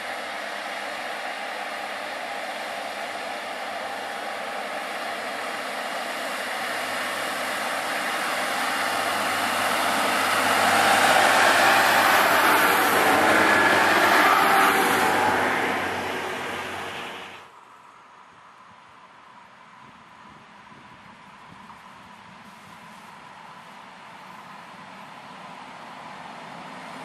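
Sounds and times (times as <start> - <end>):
diesel railcar passing by: 0.0 - 17.7, 22.4 - 27.0.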